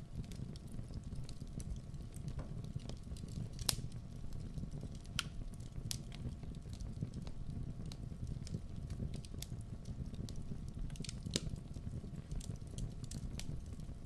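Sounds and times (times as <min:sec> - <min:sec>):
fire burning in fireplace: 0:00.0 - 0:14.0
fire crackles and pops: 0:00.0 - 0:14.0.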